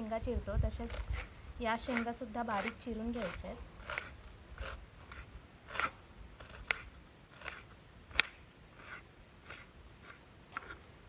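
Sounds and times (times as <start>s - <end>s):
blade chopping pods: 0.7s - 10.8s.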